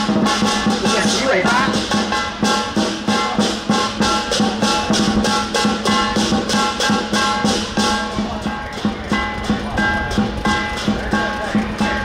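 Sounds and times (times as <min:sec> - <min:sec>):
cymbals shimmering: 0:00.0 - 0:12.0
drum beating fast: 0:00.0 - 0:12.0.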